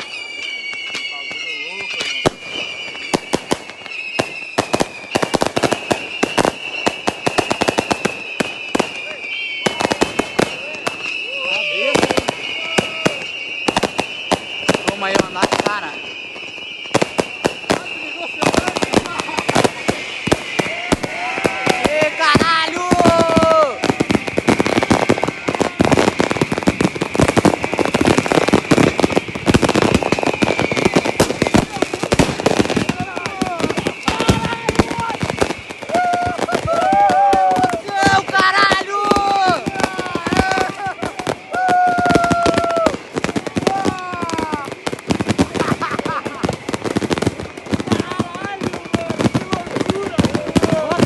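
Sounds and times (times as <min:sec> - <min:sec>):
firecrackers cracking: 0:00.0 - 0:51.0
steady high whistle: 0:00.0 - 0:51.0.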